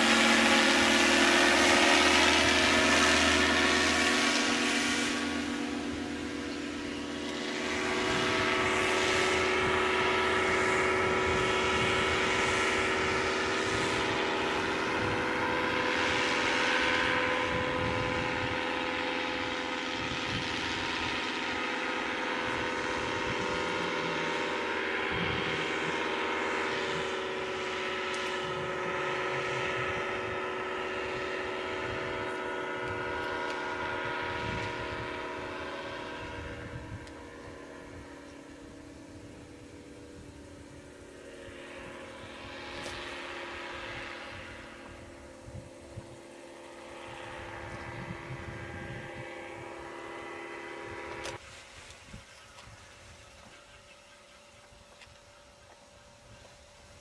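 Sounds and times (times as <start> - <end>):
paramotor engine drone: 0.0 - 57.0.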